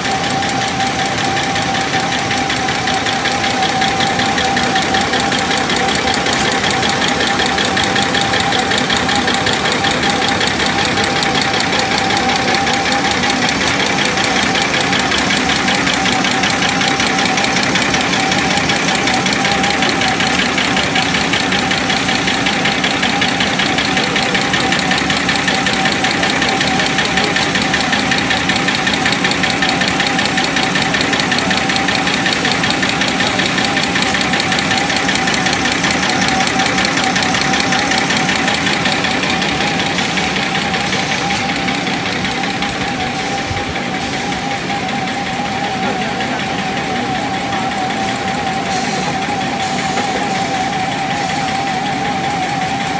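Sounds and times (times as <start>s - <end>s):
folding machine clattering: 0.0s - 52.9s
machine whine: 0.0s - 52.9s.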